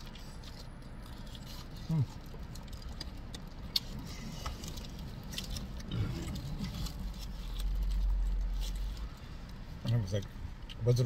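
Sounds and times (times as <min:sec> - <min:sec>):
eating clicks and crinkles: 0:00.0 - 0:10.8.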